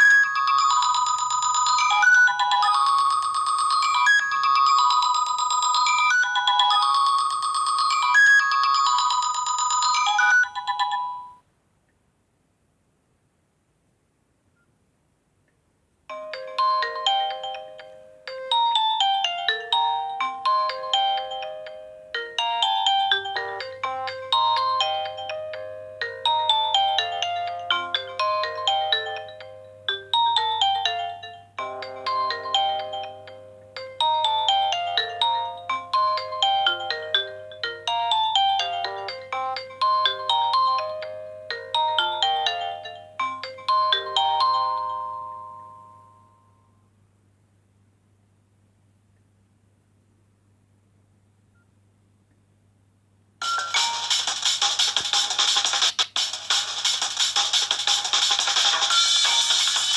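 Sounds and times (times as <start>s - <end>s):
synthesized ringtone melody: 0.0s - 11.4s, 16.1s - 46.5s, 53.4s - 59.9s.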